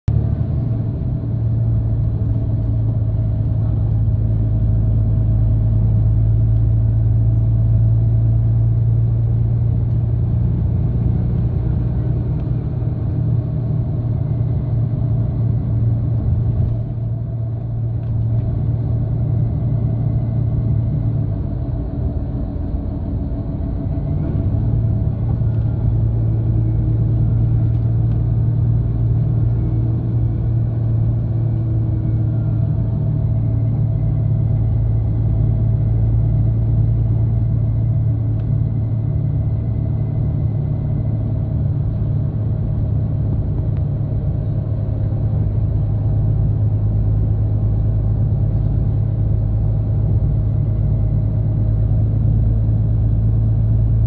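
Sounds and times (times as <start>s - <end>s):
vehicle cabin engine drone: 0.0s - 54.0s.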